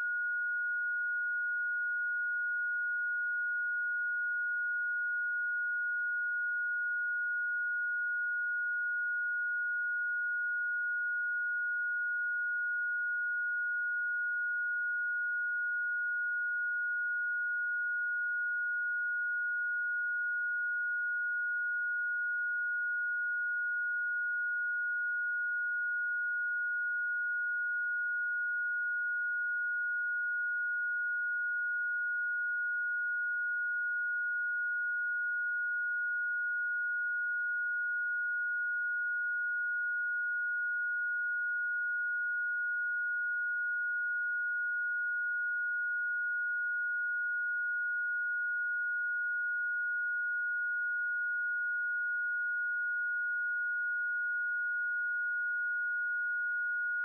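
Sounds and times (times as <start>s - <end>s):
high electronic sine tone: 0.0s - 57.0s.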